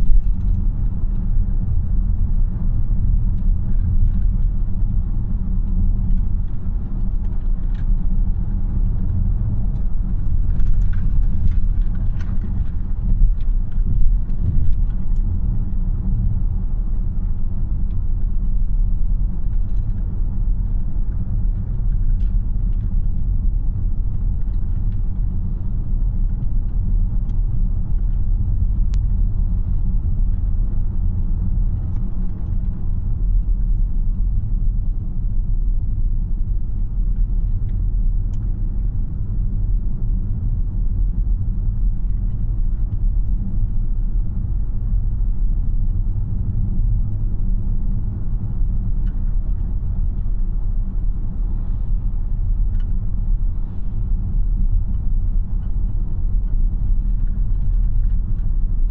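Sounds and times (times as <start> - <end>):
road and tyre rumble in car cabin: 0.0 - 58.9.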